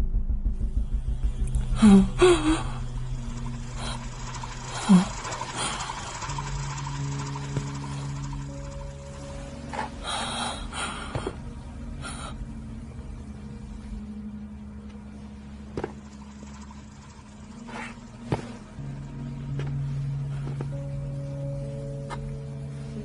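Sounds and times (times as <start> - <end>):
low steady soundtrack hum: 0.0 - 23.0.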